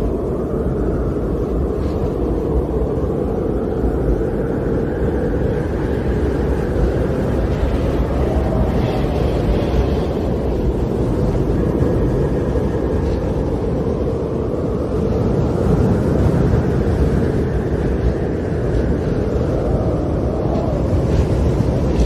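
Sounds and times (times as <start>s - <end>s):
storm wind rushing: 0.0s - 22.0s.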